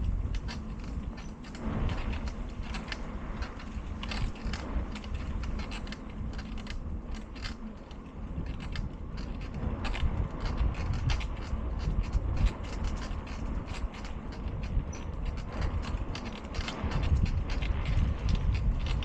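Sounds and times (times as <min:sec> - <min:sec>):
bicycle mechanism clicking and creaking: 0:00.0 - 0:19.0
wind rumble on microphone: 0:00.0 - 0:19.0.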